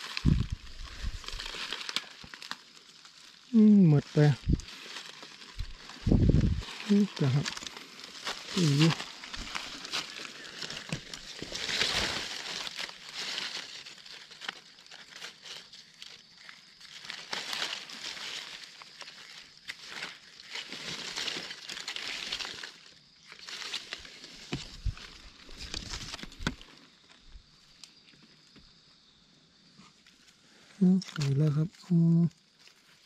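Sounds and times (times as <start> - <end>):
dry leaves rustling and crunching: 0.0 - 27.1, 32.4 - 33.0.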